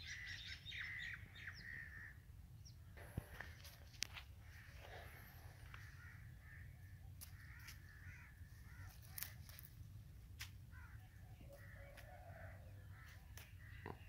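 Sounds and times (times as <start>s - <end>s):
faint birds calling: 0.0s - 14.0s.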